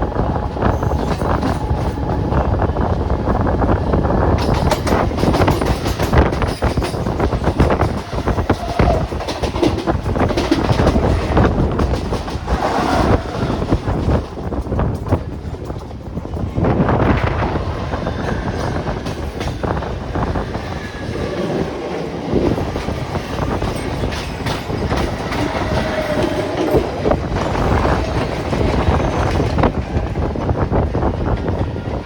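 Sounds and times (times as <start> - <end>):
train wheels clattering on rails: 0.0 - 32.0.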